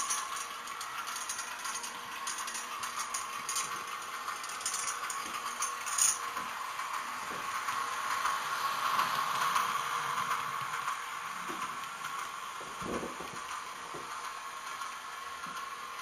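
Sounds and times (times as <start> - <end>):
model train rattling whir: 0.0 - 16.0.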